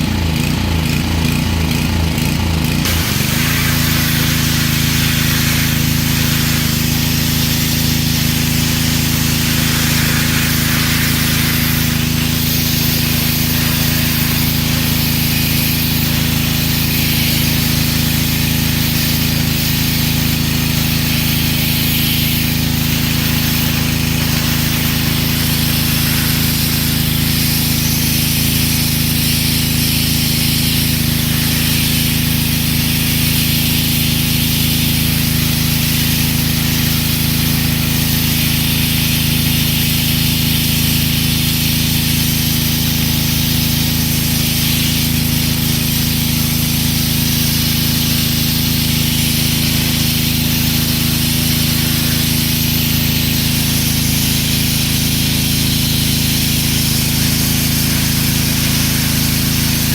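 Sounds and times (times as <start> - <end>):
pressure washer engine drone: 0.0 - 59.9
water jet hissing on concrete: 0.0 - 59.9.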